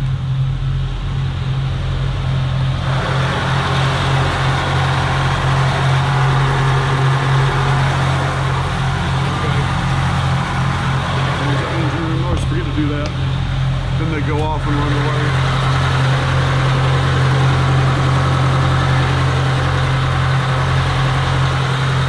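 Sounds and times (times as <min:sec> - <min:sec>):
diesel generator running: 0:00.0 - 0:22.0.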